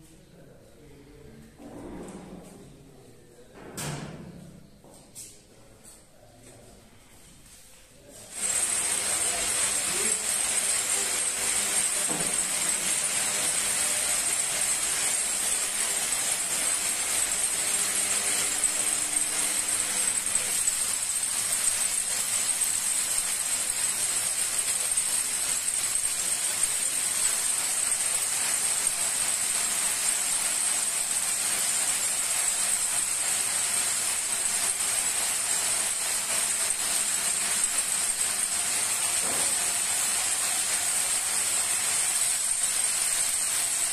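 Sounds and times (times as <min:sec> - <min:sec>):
winding machines running: 0:08.3 - 0:43.9.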